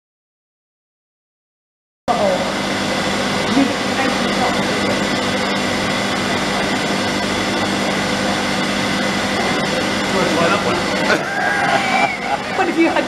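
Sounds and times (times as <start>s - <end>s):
machinery whirring and humming: 2.1s - 13.0s.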